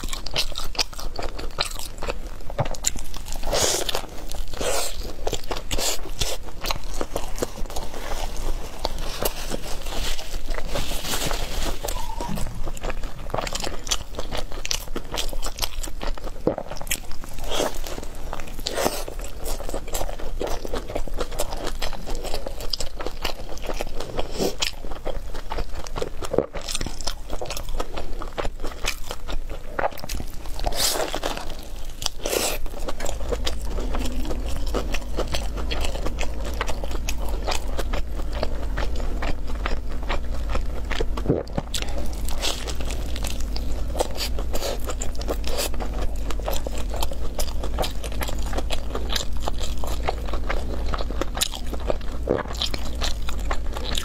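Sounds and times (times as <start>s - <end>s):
crunchy biting and chewing: 0.0s - 54.0s.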